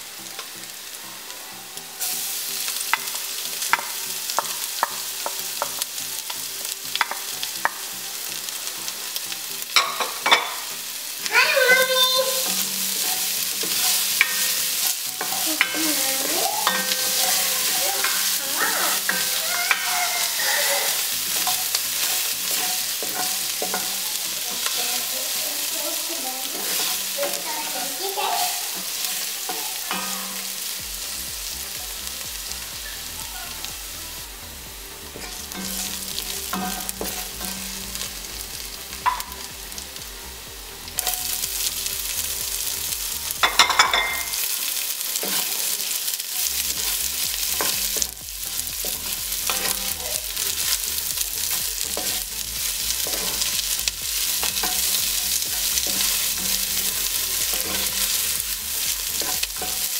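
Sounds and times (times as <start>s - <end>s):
garlic sizzling in hot oil: 0.0s - 59.9s.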